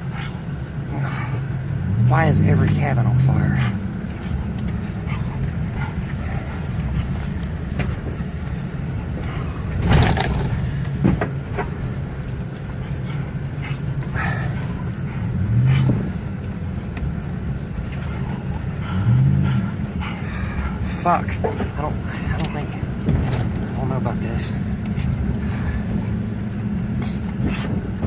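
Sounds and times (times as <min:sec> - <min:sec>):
car cabin rumble: 0:00.0 - 0:28.0.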